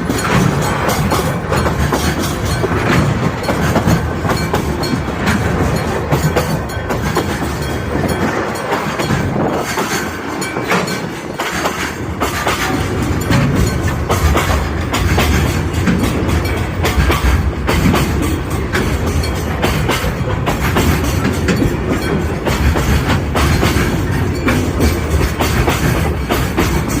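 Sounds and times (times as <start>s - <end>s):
low train rumble: 0.0s - 27.0s
train wheels clacking over rail joints: 0.0s - 27.0s.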